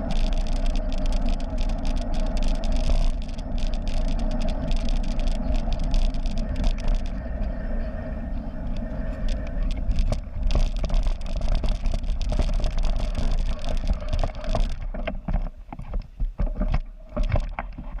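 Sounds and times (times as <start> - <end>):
bicycle rattles and clicks: 0.0 - 7.8, 8.6 - 18.0
wind buffeting microphone: 0.0 - 18.0.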